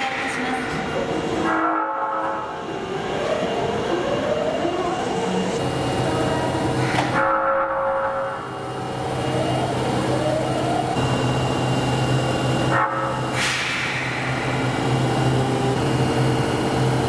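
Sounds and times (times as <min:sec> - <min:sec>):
subway train running: 0:00.0 - 0:17.0.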